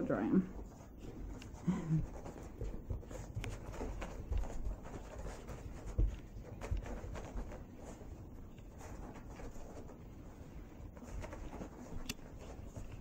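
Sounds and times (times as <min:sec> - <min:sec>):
dog scratching on carpet: 0:00.5 - 0:13.0.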